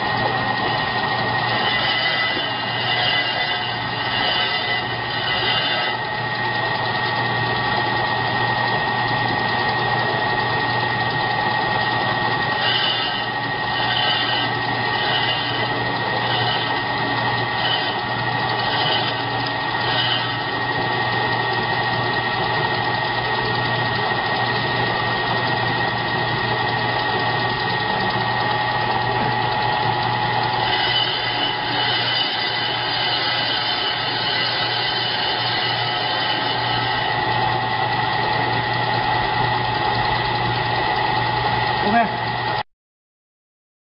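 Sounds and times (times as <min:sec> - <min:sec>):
brake lathe motor hum and whine: 0:00.0 - 0:42.6.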